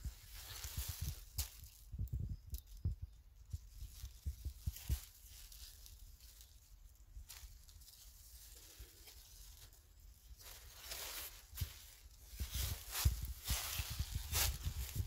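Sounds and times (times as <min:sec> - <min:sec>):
footsteps in dry leaves: 0:00.0 - 0:02.0, 0:03.5 - 0:15.0.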